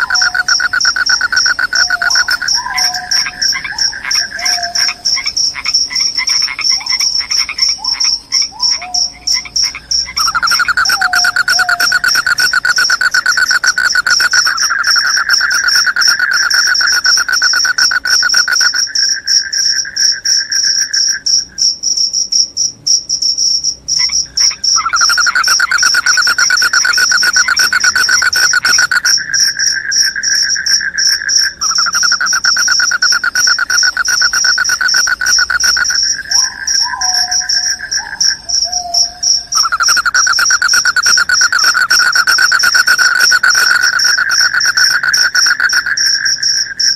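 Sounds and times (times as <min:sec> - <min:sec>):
high continuous cricket trill: 0:00.0 - 0:46.9
low pulsed cricket trill: 0:00.0 - 0:46.9.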